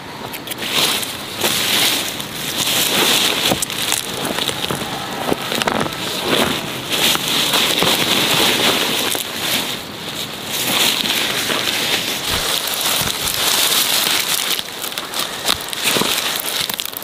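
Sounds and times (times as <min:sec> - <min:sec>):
steady high hiss: 0:00.0 - 0:17.0
dry stalks rustling and crackling: 0:00.3 - 0:17.0
roots snapping and tearing: 0:00.3 - 0:17.0.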